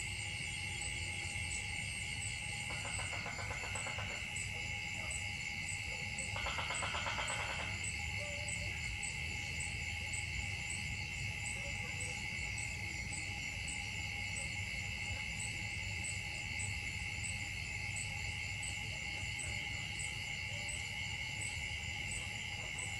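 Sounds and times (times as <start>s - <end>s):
insects droning: 0.0s - 22.9s.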